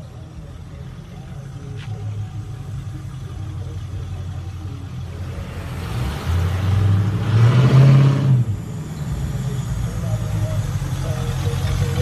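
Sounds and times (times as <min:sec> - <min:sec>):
car engine rumbling accelerating: 0:00.0 - 0:12.0
passing car road noise: 0:01.2 - 0:12.0.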